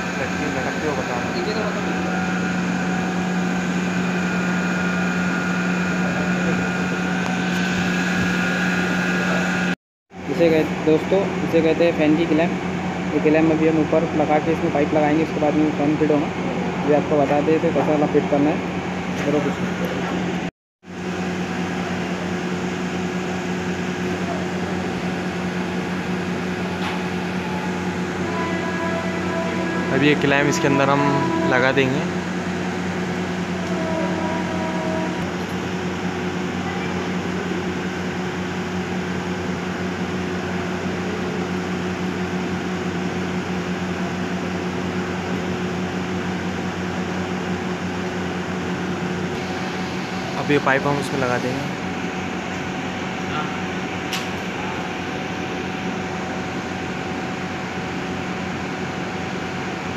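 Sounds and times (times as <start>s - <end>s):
machine hum with hiss: 0.0s - 59.9s.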